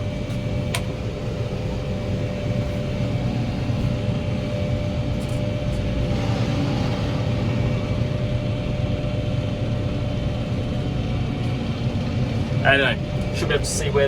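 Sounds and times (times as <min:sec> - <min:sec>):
flail mower whine: 0:00.0 - 0:14.0
tractor engine rumble: 0:00.0 - 0:14.0.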